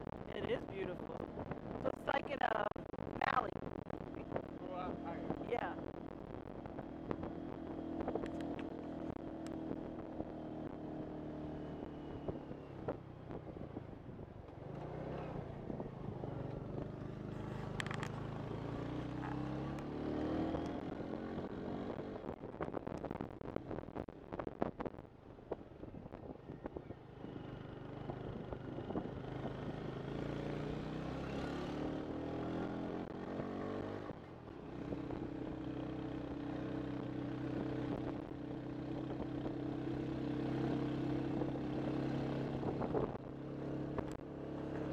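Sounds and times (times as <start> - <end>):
road noise: 0.0 - 44.9
motorcycle engine revving: 4.0 - 23.9, 26.4 - 44.9.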